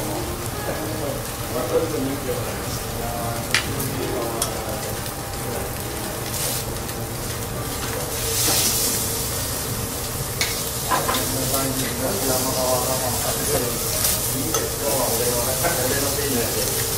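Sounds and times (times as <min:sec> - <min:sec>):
steak sizzling on griddle: 0:00.0 - 0:16.9.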